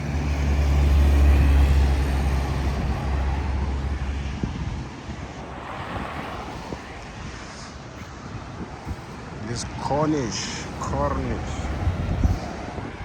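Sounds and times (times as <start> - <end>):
passing vehicle engine hum: 0.0 - 13.0.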